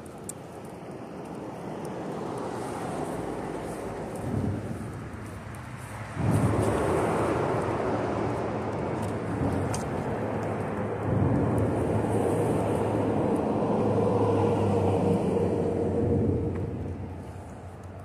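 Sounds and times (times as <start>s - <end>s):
traffic rumbling over bridge: 0.0s - 18.0s.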